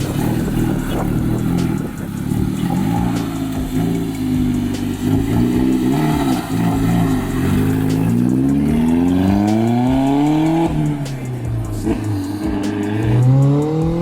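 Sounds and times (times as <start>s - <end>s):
turbo car engine accelerating: 0.0s - 14.0s.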